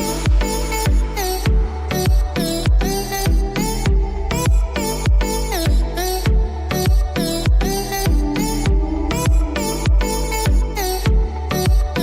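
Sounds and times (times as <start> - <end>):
electronic dance music: 0.0 - 12.0
heavy kick drum: 0.0 - 12.0.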